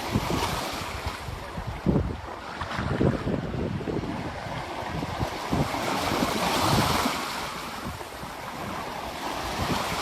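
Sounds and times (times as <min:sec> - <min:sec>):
ocean surf on beach: 0:00.0 - 0:10.0
wind on microphone: 0:00.0 - 0:10.0.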